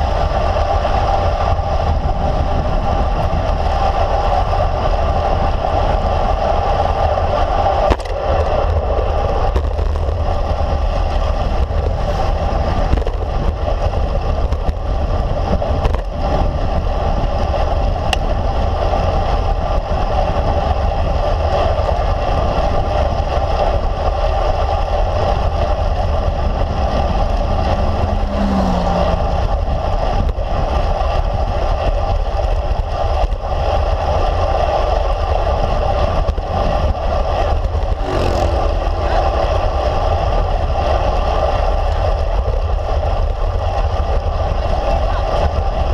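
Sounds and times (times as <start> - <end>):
bike tyres rolling on asphalt: 0.0 - 45.9
wind rush on microphone: 0.0 - 45.9.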